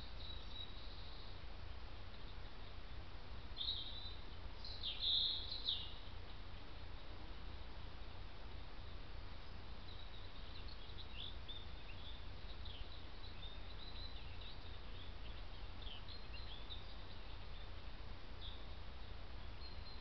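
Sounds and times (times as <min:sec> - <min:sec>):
robin singing: 0:00.0 - 0:07.2, 0:08.6 - 0:20.0
steady low hum: 0:00.0 - 0:20.0.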